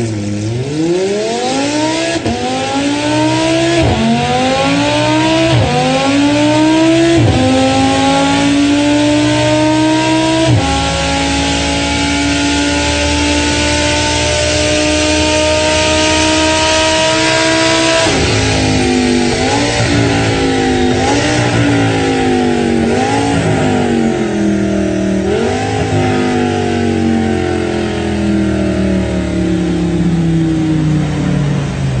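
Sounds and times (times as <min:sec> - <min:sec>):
racing car engine revving: 0:00.0 - 0:32.0.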